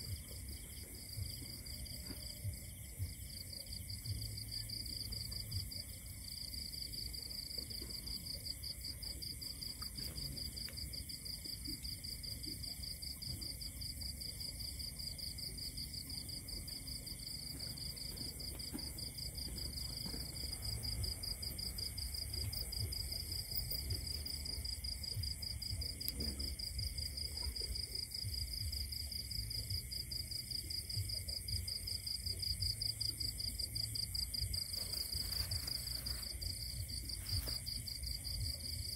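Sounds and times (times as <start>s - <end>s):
night insects trilling: 0.0s - 38.9s.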